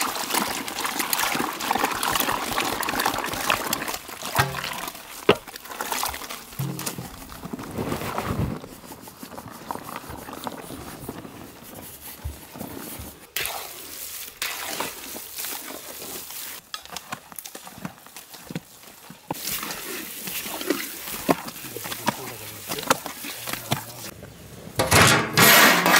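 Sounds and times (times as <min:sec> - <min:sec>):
hand mixing wet flour: 0:00.0 - 0:24.1.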